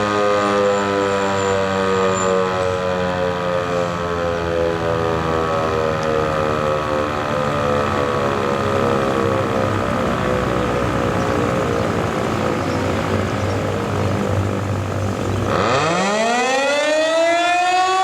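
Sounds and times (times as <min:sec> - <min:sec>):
outdoor warning siren sounding: 0:00.0 - 0:18.0.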